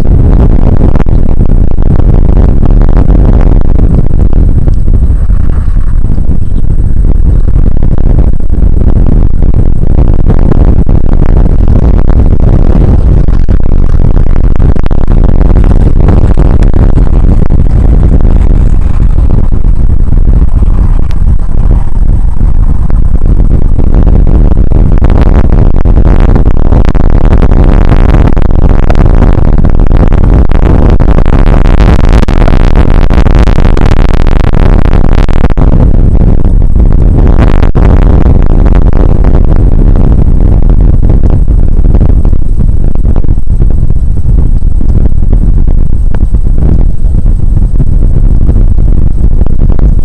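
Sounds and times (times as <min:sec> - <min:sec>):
crackling hiss: 0:00.0 - 0:50.0
wind on microphone: 0:00.0 - 0:50.0.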